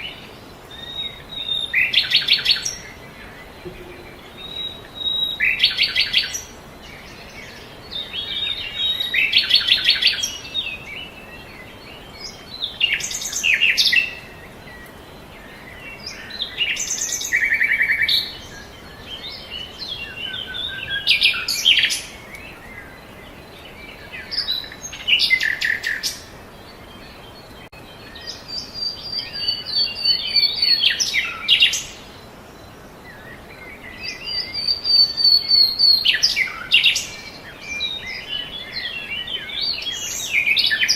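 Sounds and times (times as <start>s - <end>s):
songbirds chirping and trilling: 0.0s - 40.9s
steady background hiss: 0.0s - 40.9s.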